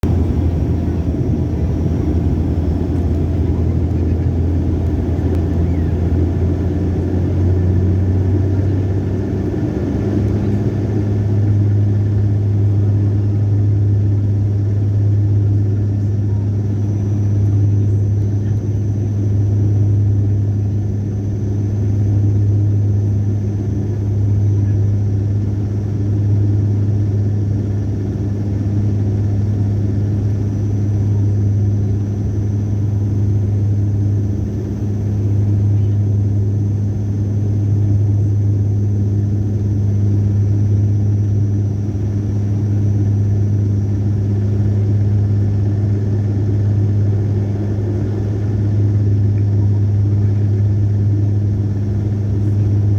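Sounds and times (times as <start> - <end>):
loud low engine drone: 0.0 - 52.9.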